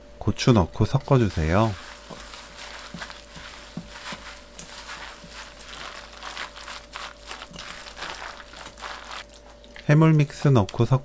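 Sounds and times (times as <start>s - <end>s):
hand squishing batter in bowl: 0.8s - 10.0s.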